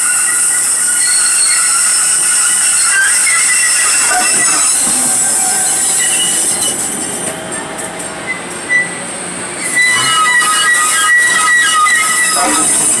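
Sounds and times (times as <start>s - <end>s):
light rail car rolling past: 0.0s - 13.0s
wheels squealing on rail: 0.0s - 13.0s.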